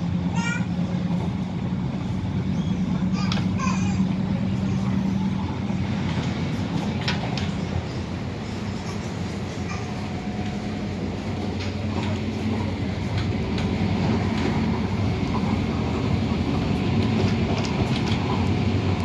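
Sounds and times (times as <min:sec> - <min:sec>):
electric train running on rails: 0:00.0 - 0:19.0.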